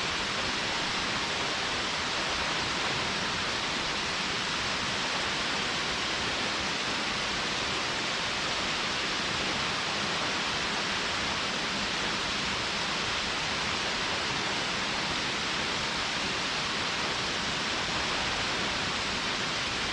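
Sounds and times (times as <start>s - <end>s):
stream water rushing: 0.0s - 19.9s.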